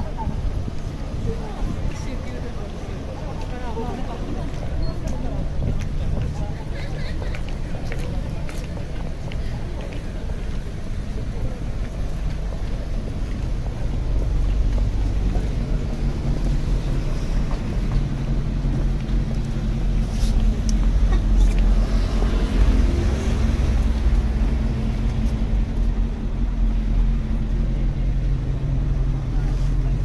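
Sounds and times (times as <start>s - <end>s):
road traffic engine rumble: 0.0s - 30.0s.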